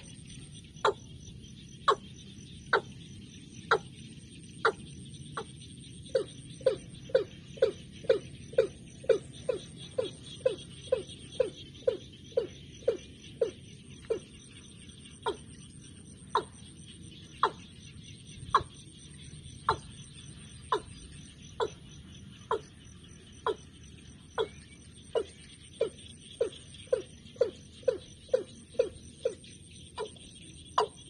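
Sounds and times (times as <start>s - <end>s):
high insect trill: 0.0s - 31.0s.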